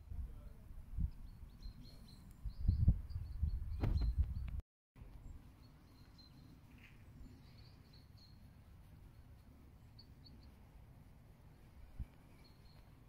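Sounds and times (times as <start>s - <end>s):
faint bird chirps: 0.4s - 4.5s, 5.2s - 10.7s, 11.5s - 13.0s.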